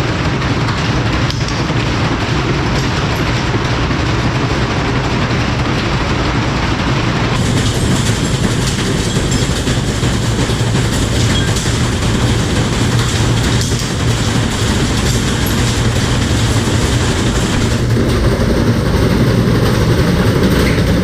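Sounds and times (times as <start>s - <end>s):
washing machine spinning and clattering: 0.0s - 21.0s.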